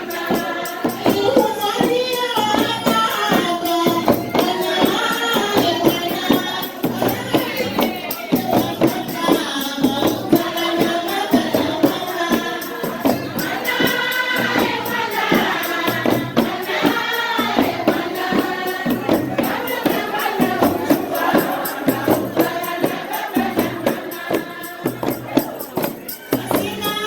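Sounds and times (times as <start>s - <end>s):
hand percussion beat: 0.0s - 27.0s
voices singing together: 0.0s - 27.0s.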